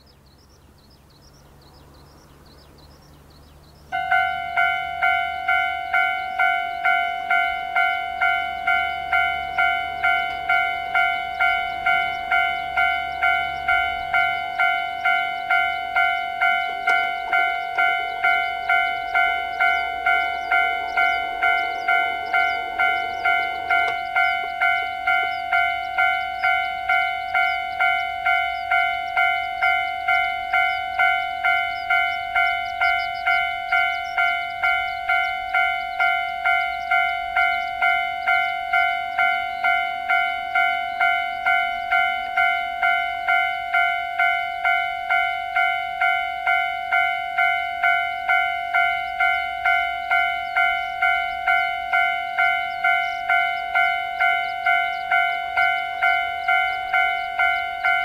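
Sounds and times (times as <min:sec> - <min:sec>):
level crossing warning bell: 0:01.3 - 0:58.0.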